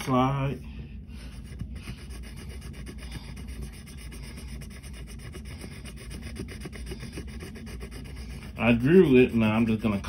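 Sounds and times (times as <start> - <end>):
marker scratching on paper: 1.2 - 10.0.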